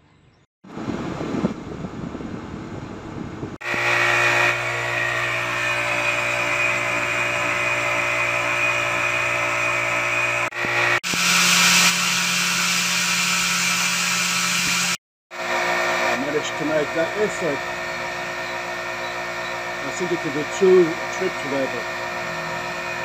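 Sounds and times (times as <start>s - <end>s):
electric pressure washer running: 3.6s - 23.0s.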